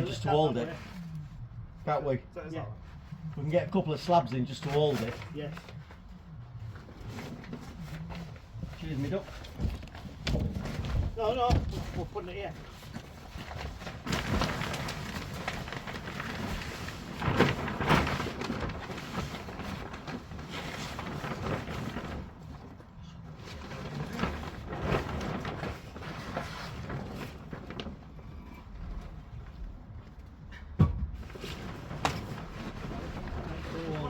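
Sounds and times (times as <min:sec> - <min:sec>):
plastic sheeting rustling and crackling: 0:00.0 - 0:30.5, 0:31.2 - 0:34.0.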